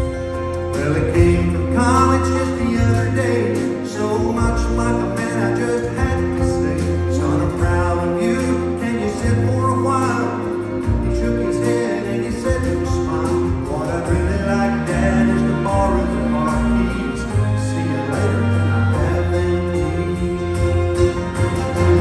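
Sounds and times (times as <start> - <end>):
bluegrass band with orchestra: 0.0 - 22.0.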